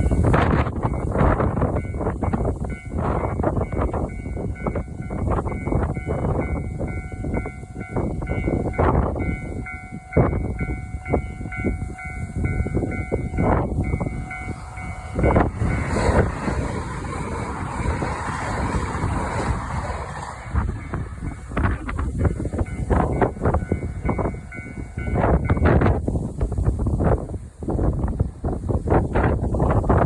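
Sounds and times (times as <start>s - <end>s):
train rushing past: 0.0s - 30.0s.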